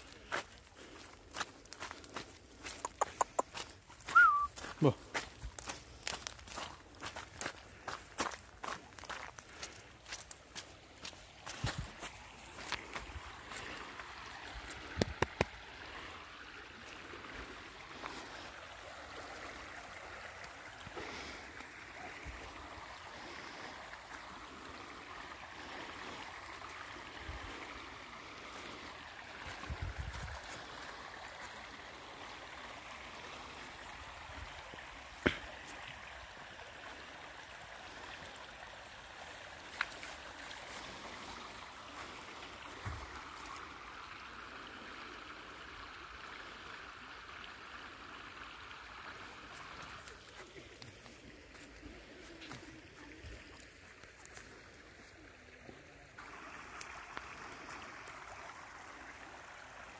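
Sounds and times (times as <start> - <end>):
river water rushing: 3.6 - 59.9.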